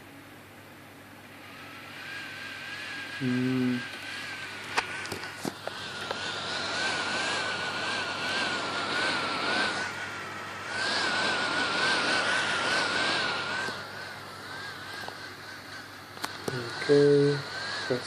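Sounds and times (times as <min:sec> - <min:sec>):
laptop fan whirring: 0:00.0 - 0:18.0
warbling whine: 0:01.1 - 0:18.0.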